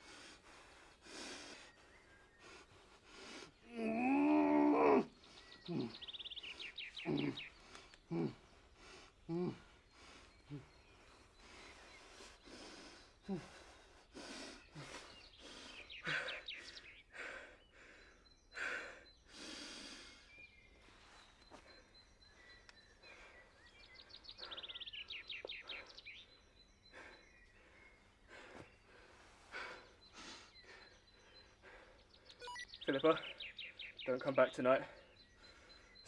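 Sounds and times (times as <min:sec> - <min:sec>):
person breathing heavily: 0:00.0 - 0:03.8, 0:05.1 - 0:32.4.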